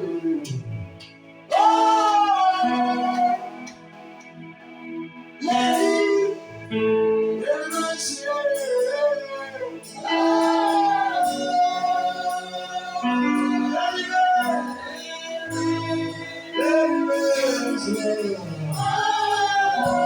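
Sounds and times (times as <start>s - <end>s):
held instrumental chords: 0.0s - 20.0s
woman and man singing: 1.5s - 3.7s, 5.4s - 20.0s.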